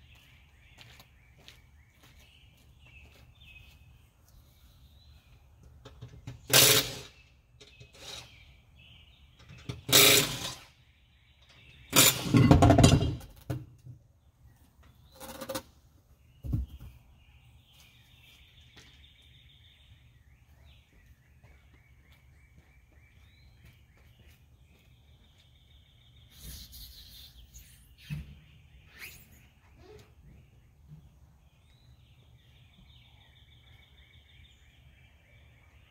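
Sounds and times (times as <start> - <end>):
birds chirping: 0.0 - 35.9.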